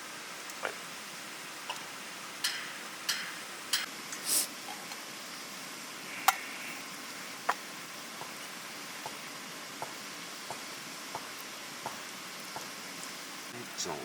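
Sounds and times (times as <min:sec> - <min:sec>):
steady soft hiss: 0:00.0 - 0:14.0
wood fire crackling: 0:00.0 - 0:14.0.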